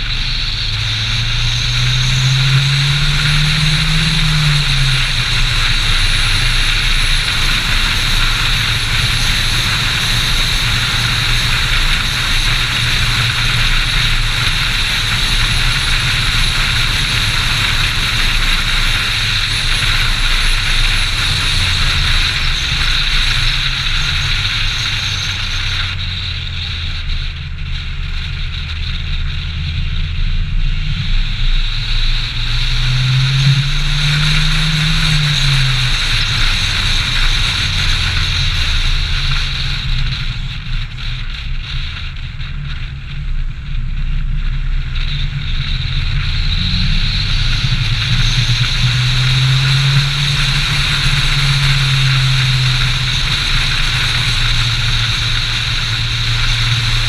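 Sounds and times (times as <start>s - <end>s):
car engine hum: 0.0s - 57.0s
wind and tyre noise: 0.0s - 57.0s.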